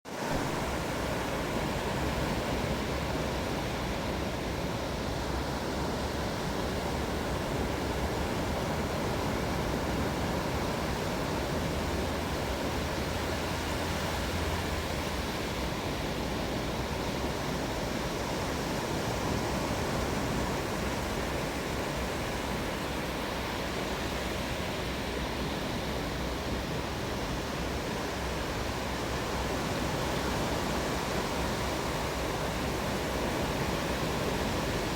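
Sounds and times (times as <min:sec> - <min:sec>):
ocean surf washing ashore: 0:00.1 - 0:34.9.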